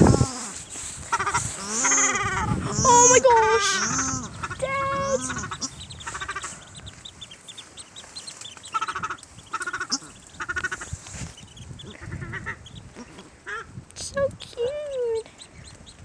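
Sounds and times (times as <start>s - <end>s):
ducklings peeping: 0.0s - 16.0s.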